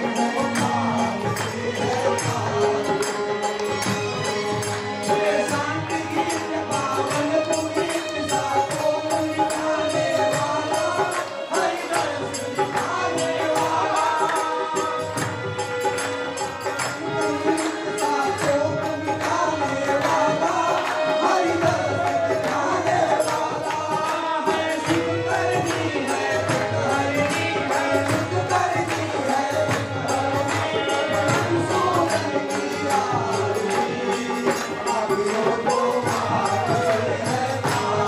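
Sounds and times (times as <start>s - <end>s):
devotional singing: 0.0s - 38.0s
jingling percussion: 0.0s - 38.0s.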